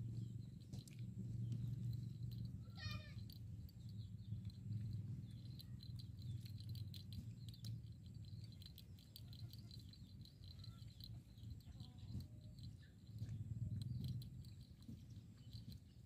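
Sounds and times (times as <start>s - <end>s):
insects chirping: 0.0s - 16.0s
low steady rumble: 0.0s - 16.0s.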